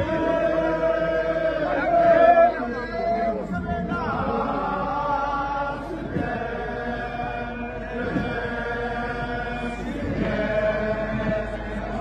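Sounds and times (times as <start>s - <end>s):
many voices chanting in unison: 0.0s - 12.0s.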